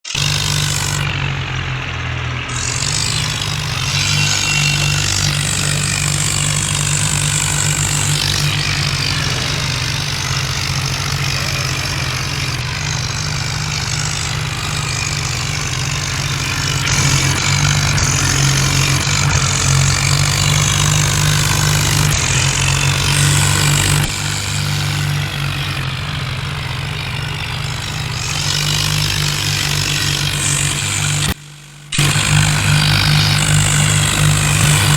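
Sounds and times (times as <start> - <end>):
tractor diesel engines humming: 0.0 - 34.9.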